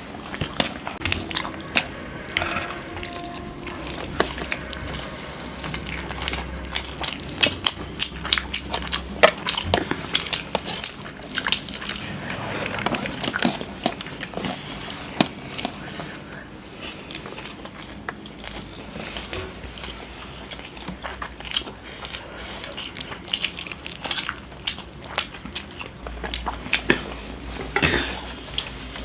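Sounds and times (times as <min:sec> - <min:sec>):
people chewing food: 0:00.0 - 0:29.0.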